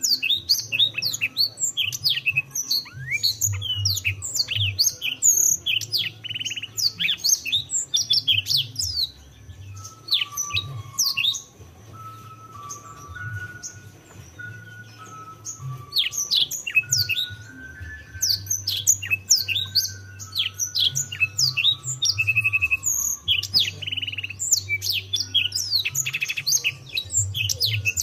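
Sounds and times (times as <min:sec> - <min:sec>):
canary singing: 0:00.0 - 0:28.0.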